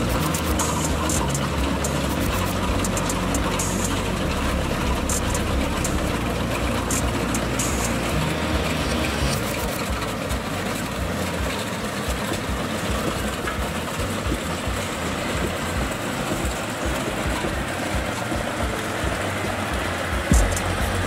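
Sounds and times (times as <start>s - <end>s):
combine harvester engine: 0.0s - 21.0s
machinery whirring and rattling: 0.0s - 21.0s.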